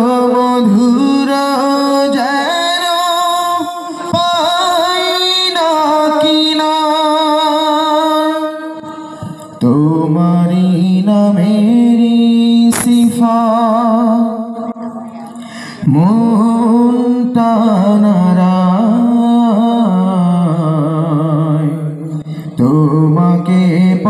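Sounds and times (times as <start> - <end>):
man singing through pa system: 0.0 - 24.0.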